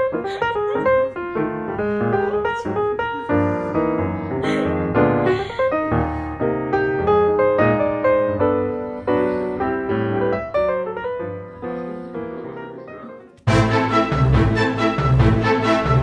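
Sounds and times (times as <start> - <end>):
lively piano music: 0.0 - 16.0.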